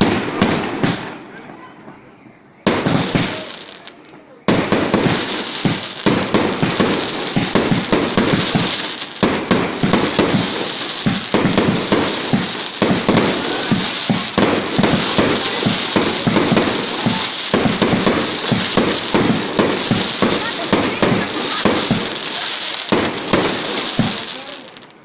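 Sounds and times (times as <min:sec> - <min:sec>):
fireworks bangs and pops: 0:00.0 - 0:25.0
fireworks crackling: 0:00.0 - 0:25.0.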